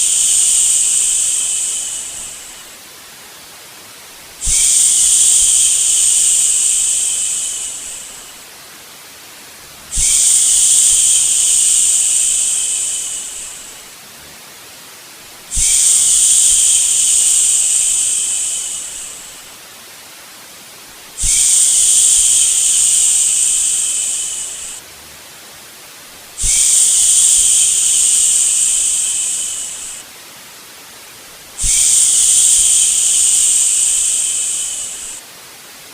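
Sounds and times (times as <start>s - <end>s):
steady white noise hiss: 0.0s - 35.9s.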